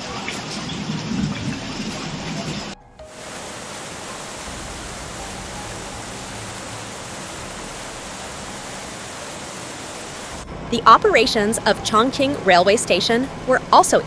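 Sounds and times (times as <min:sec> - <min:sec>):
floodwater rushing: 0:00.0 - 0:11.5
rain-like noise: 0:00.0 - 0:14.0.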